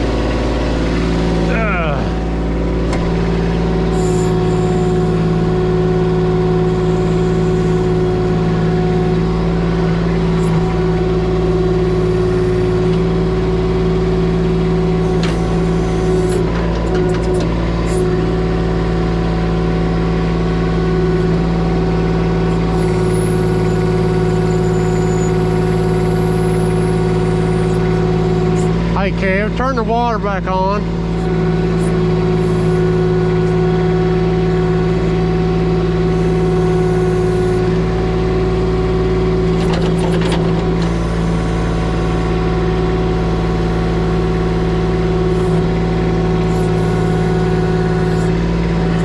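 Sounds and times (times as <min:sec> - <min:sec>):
machine engine running: 0:00.0 - 0:49.0.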